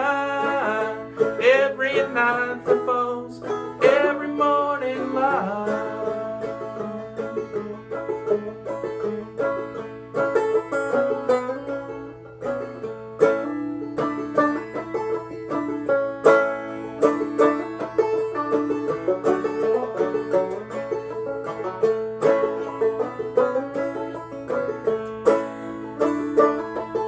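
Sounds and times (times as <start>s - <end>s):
banjo plucked and strummed: 0.0s - 27.0s.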